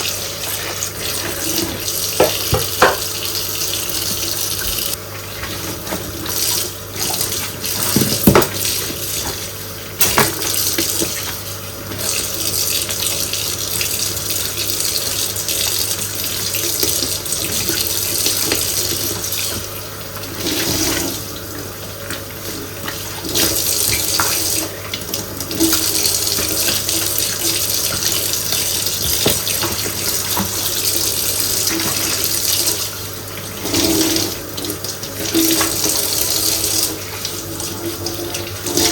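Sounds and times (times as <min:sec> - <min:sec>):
tap water running into sink: 0:00.0 - 0:38.9.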